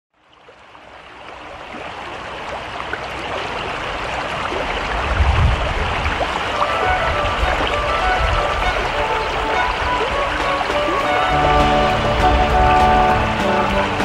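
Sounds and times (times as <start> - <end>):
river water rushing: 0.5 - 14.0.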